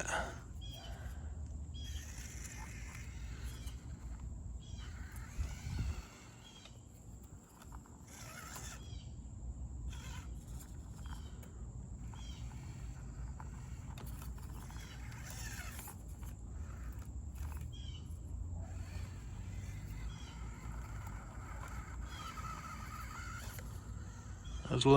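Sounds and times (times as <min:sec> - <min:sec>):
birds chirping and whistling: 0:00.5 - 0:09.3, 0:10.2 - 0:24.9.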